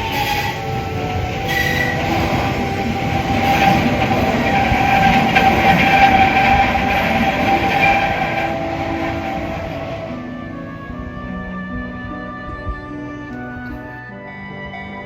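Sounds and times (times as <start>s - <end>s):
train running past: 0.0s - 13.0s
wheels squealing: 0.0s - 13.3s.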